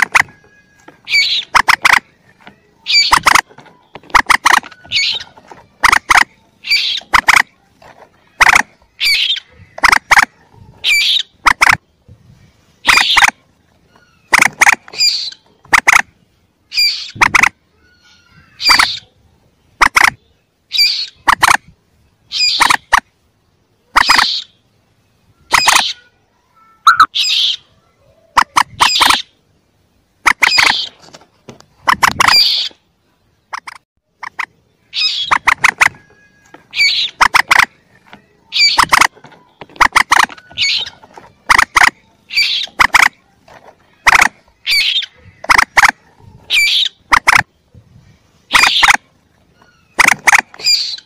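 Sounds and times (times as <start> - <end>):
moorhen chicks calling: 0.0 - 26.1, 26.8 - 51.0.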